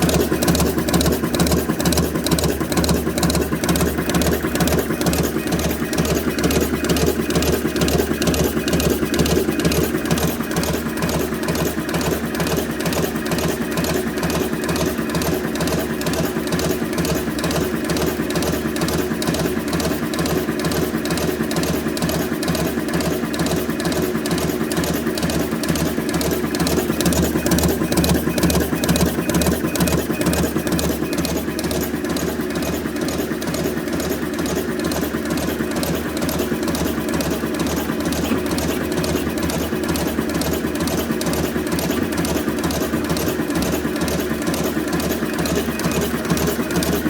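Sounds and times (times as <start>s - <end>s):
machine with rhythmic clatter: 0.0s - 47.0s.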